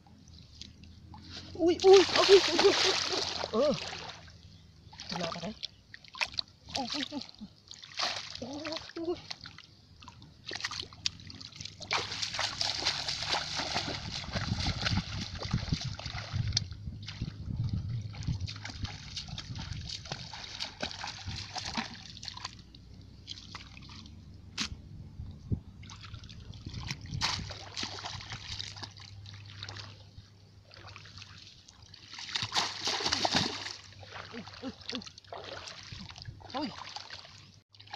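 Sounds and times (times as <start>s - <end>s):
splashing of muddy water: 0.6s - 24.7s, 25.8s - 37.9s.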